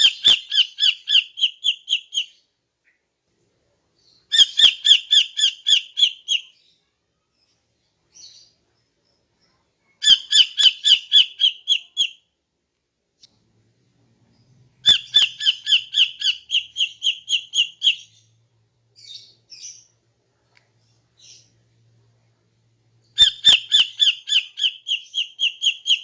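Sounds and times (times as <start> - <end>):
bird chirping: 0.0 - 3.1, 4.0 - 12.3, 14.0 - 22.0, 23.0 - 26.0.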